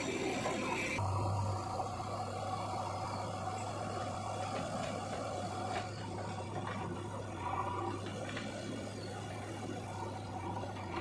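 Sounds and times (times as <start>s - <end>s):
diesel engines running: 0.0s - 11.0s.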